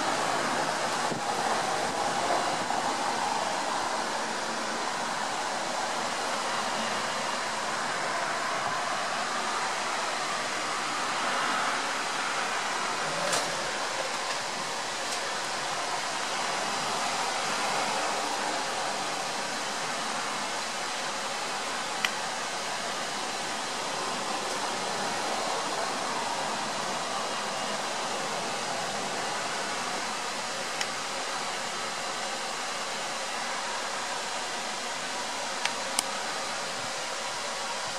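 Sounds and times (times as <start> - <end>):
light rain hissing: 0.0 - 37.9.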